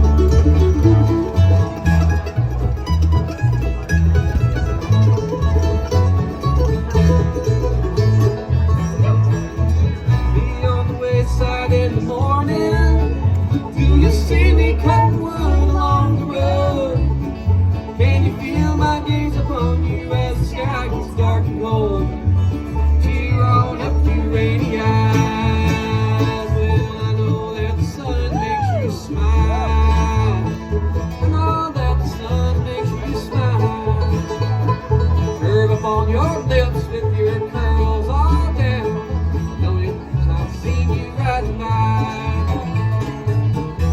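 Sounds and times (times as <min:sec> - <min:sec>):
banjo picking: 0:00.0 - 0:43.9
guitar picking: 0:00.0 - 0:43.9
sliding melody line: 0:00.0 - 0:43.9
walking bass line: 0:00.0 - 0:43.9.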